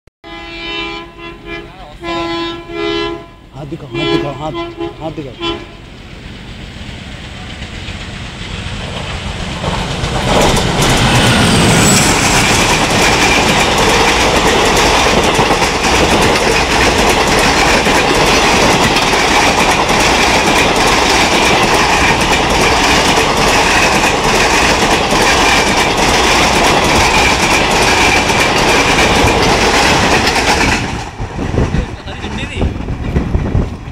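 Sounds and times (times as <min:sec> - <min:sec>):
diesel locomotive engine chugging: 0:00.7 - 0:33.9
train coaches clattering over rails: 0:03.5 - 0:33.9.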